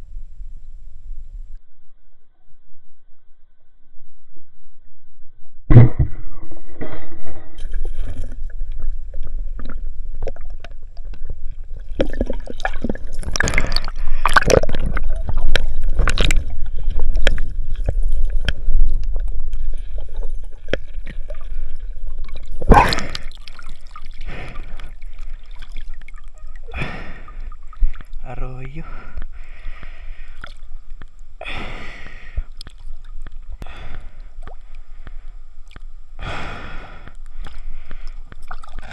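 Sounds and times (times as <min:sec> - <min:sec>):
steady low rumble: 0:00.0 - 0:02.2, 0:03.0 - 0:38.9
water gurgling and sloshing: 0:03.8 - 0:36.2, 0:37.1 - 0:38.9.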